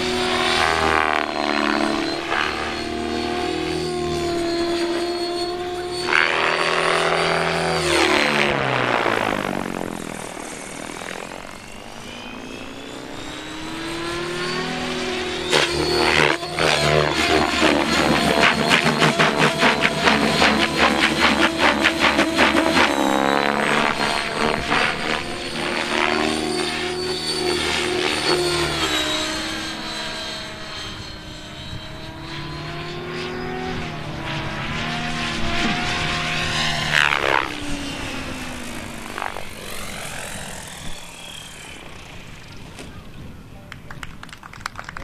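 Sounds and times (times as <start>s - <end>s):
model helicopter rotor whine: 0.0s - 44.8s.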